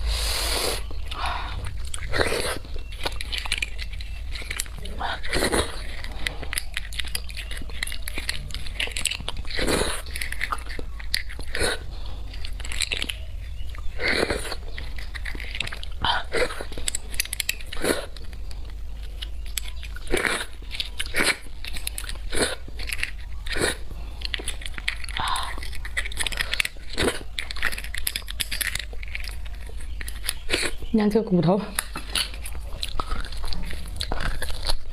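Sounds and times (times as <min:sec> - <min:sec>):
low steady hum: 0:00.0 - 0:34.9
chewing and wet mouth clicks: 0:00.8 - 0:34.9.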